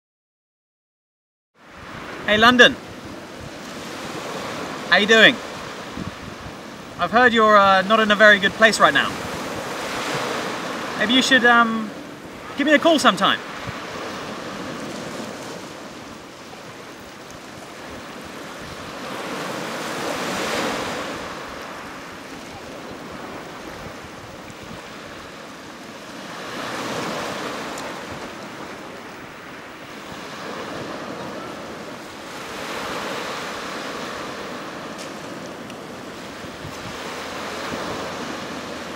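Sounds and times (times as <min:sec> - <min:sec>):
waves breaking on beach: 0:01.6 - 0:38.9.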